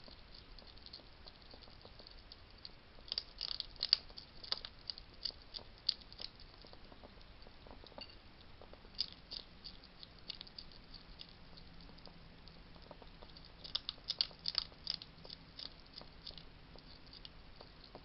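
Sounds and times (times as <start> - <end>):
hedgehog crunching dry food: 0.0 - 18.0.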